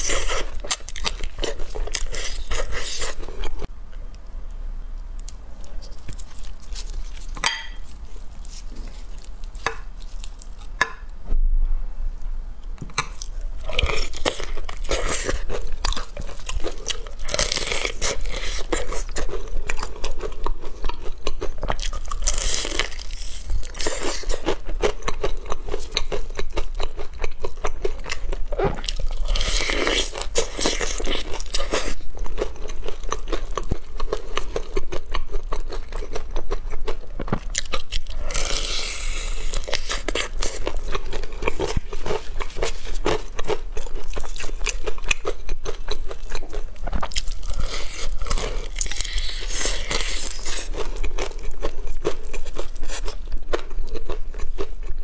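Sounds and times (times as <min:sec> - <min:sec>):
crunching fried chicken: 0:05.2 - 0:10.7, 0:13.2 - 0:55.0.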